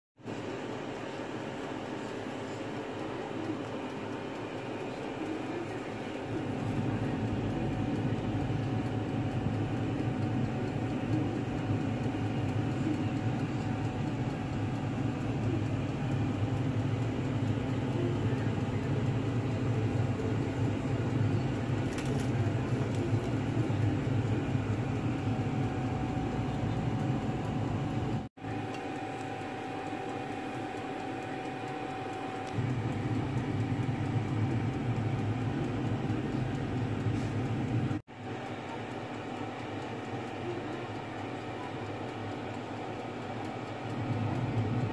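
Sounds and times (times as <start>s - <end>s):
low mechanical drone: 2.0s - 38.0s.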